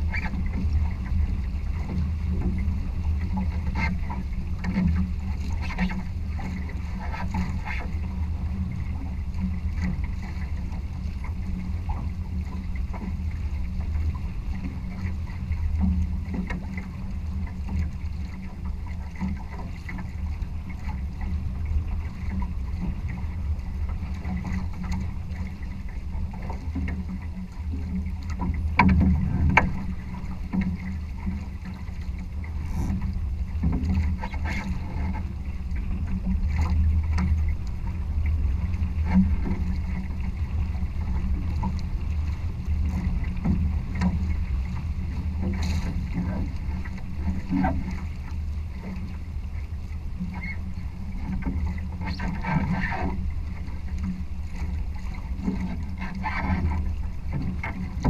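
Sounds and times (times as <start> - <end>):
water rushing along boat hulls: 0.0 - 58.0
wind rumble on microphone: 0.0 - 58.0.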